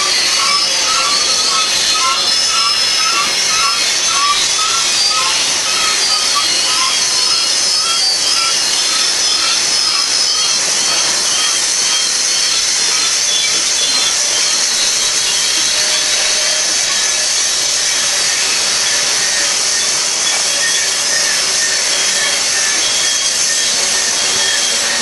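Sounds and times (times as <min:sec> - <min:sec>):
high wheel squeals: 0:00.0 - 0:25.0
train wheels grinding on rail: 0:00.0 - 0:25.0.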